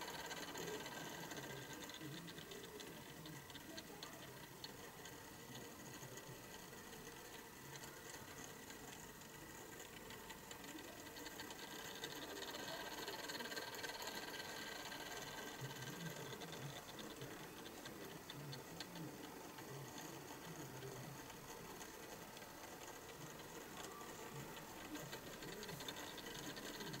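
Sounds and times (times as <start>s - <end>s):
motorized turntable whirring: 0.0s - 27.0s.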